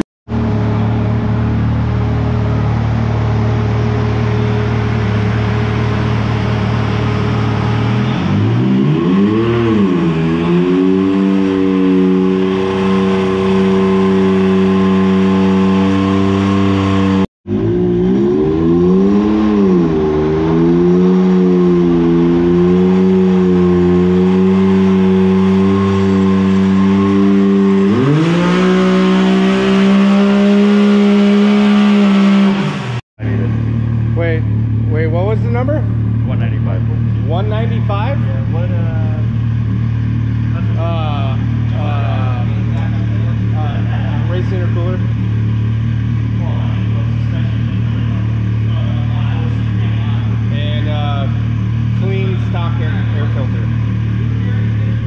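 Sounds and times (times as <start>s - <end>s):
engine revving under load: 0.0s - 55.0s.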